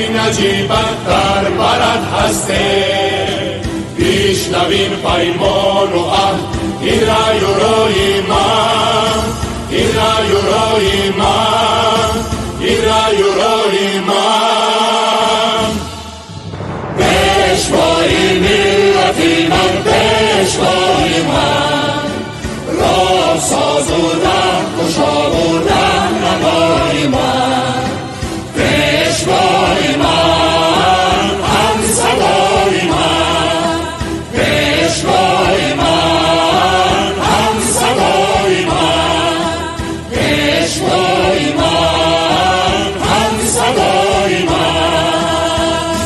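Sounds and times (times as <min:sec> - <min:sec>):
choir singing: 0:00.0 - 0:46.0
instrumental backing music: 0:00.0 - 0:46.0.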